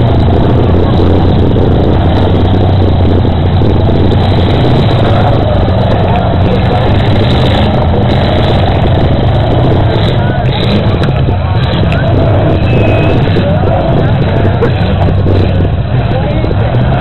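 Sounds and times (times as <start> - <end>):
car engines running together: 0.0 - 17.0.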